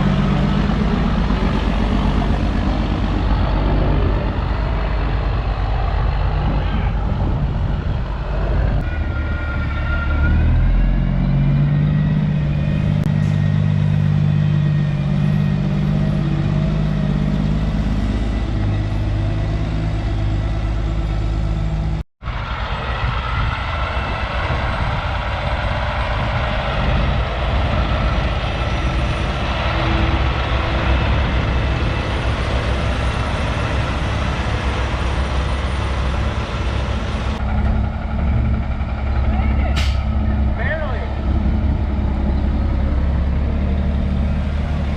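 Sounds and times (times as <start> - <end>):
truck diesel engines running: 0.0 - 44.9.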